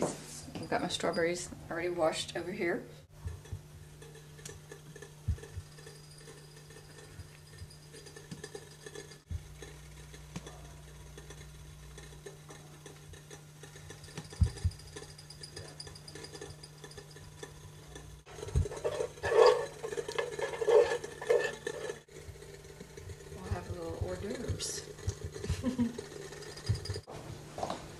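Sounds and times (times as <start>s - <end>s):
steady low hum: 0.0s - 27.9s
metal spoon scraping saucepan: 3.2s - 27.1s.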